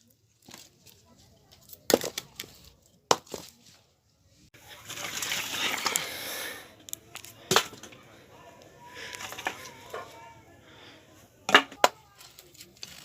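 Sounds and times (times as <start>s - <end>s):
firewood rustling and scraping: 0.0s - 13.0s.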